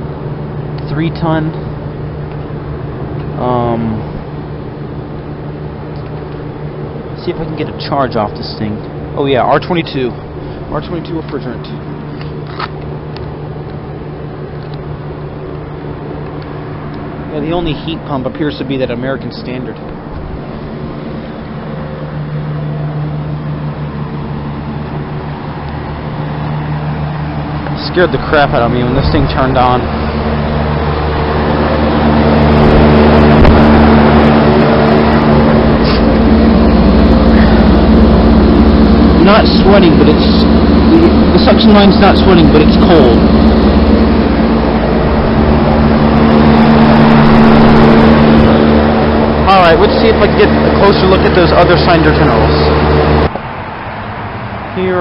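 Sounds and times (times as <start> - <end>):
compressor hum: 0.0 - 55.0
condenser fan rushing: 0.0 - 55.0.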